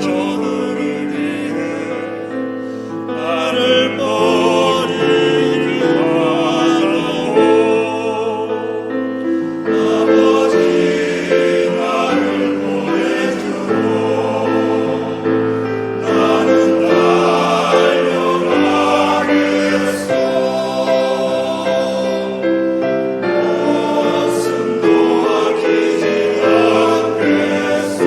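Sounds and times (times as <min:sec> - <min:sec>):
choir singing chords: 0:00.0 - 0:28.0.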